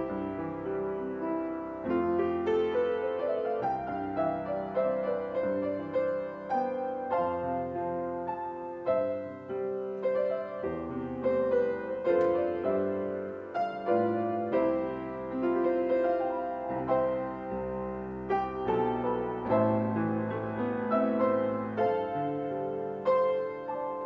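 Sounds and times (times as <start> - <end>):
solo grand piano piece: 0.0 - 24.0.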